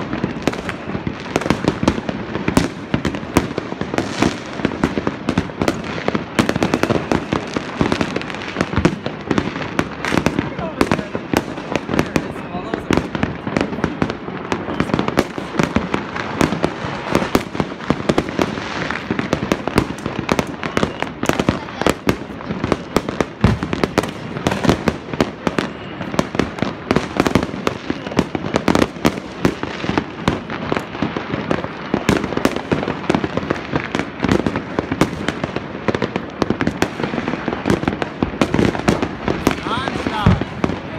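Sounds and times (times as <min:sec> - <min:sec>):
fireworks bangs and crackling pops: 0:00.0 - 0:40.9.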